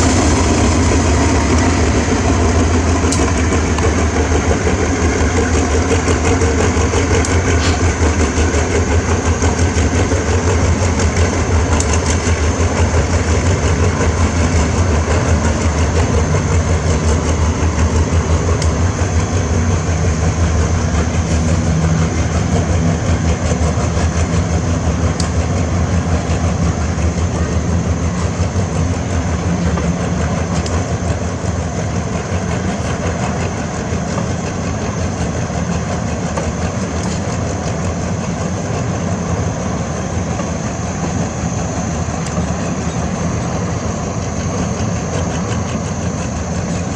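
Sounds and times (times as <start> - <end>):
diesel locomotive engine humming: 0.0 - 46.9.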